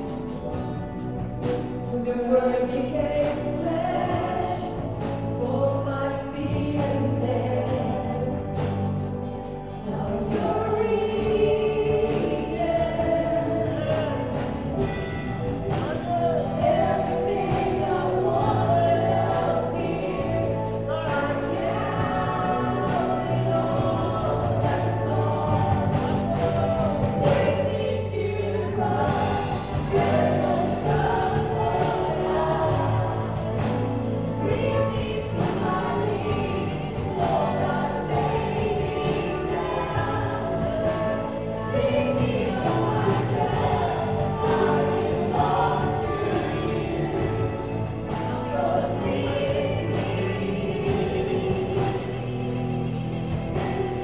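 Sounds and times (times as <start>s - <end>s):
keyboards: 0.0s - 54.0s
men and women singing together: 0.0s - 54.0s.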